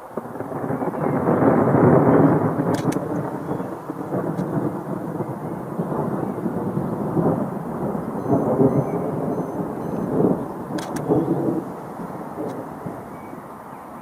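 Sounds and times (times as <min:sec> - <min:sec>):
thunder rolling: 0:00.0 - 0:14.0.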